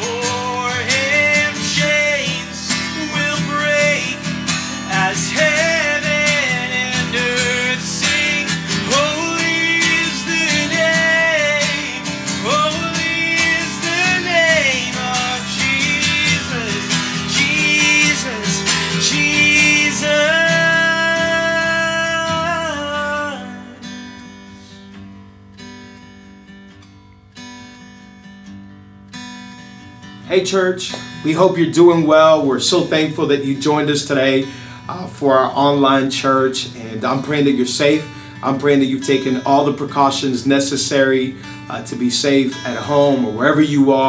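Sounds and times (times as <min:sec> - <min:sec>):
man singing worship song: 0:00.0 - 0:24.8, 0:30.3 - 0:44.0
acoustic guitar strumming: 0:00.0 - 0:44.0.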